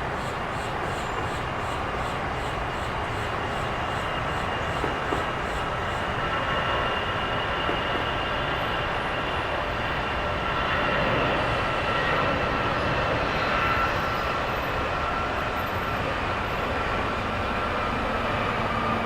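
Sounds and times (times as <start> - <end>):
jet airliner engines running: 0.0 - 19.0
high engine whine: 3.7 - 19.0.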